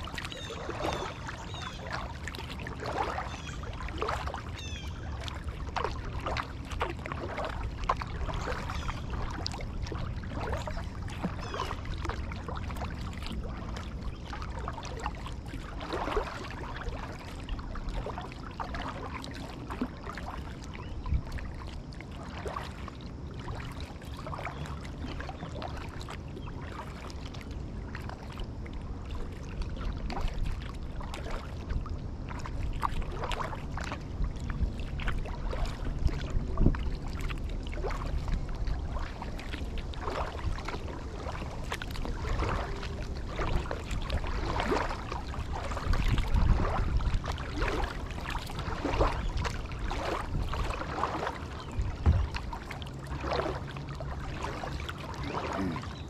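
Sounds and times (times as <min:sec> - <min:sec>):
low steady rumble: 0:00.0 - 0:56.0
water splashing around kayak: 0:00.0 - 0:56.0.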